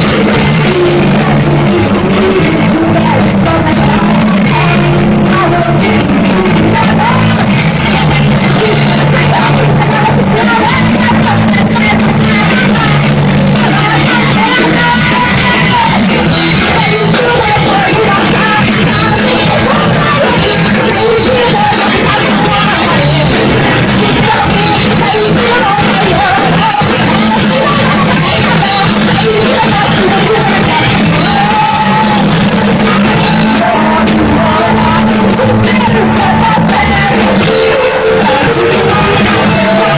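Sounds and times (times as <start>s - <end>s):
drums: 0.0s - 39.9s
electric guitar: 0.0s - 39.9s
person singing and yelling: 0.0s - 39.9s.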